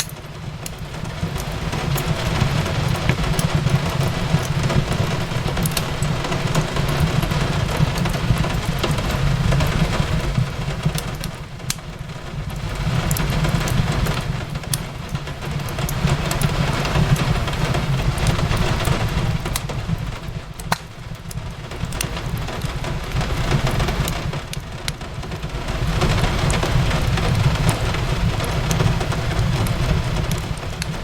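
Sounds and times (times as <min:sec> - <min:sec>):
fireplace crackling and popping: 0:00.0 - 0:31.0
rain on a window: 0:00.0 - 0:31.0.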